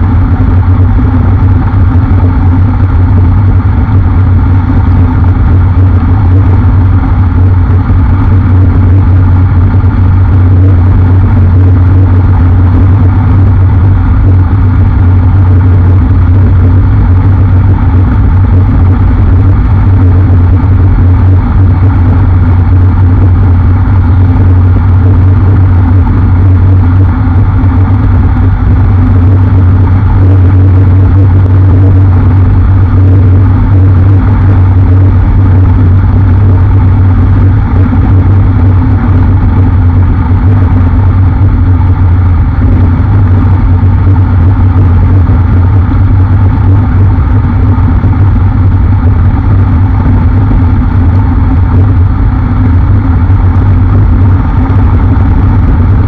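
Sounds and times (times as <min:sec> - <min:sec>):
wind rush on microphone: 0:00.0 - 0:56.0.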